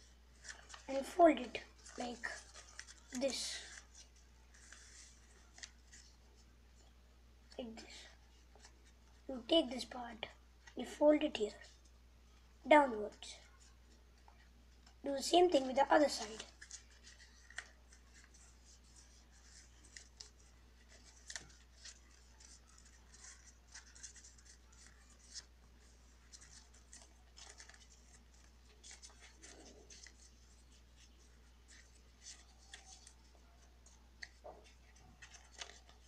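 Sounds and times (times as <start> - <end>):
paper crinkling and rustling: 0.0 - 6.5, 7.9 - 10.0, 13.4 - 36.0.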